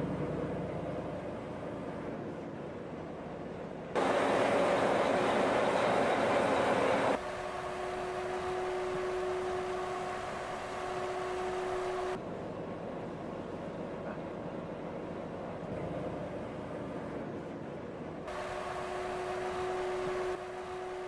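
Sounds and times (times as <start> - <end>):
steady hum: 0.0 - 21.0
vehicle running: 0.0 - 21.0.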